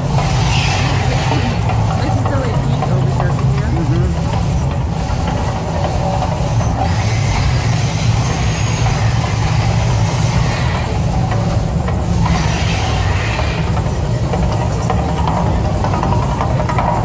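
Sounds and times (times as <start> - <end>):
deep steady rumble: 0.0 - 17.0
hiss of noise: 0.0 - 17.0.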